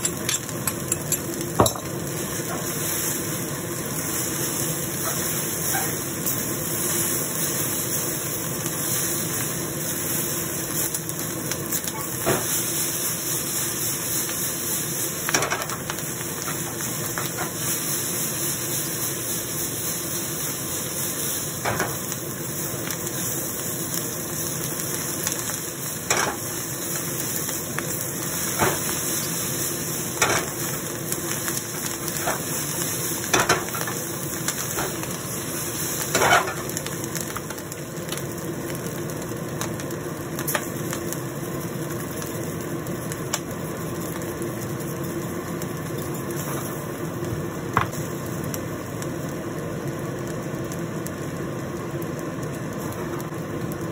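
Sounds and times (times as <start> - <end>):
rice sizzling in a wok: 0.0 - 53.9.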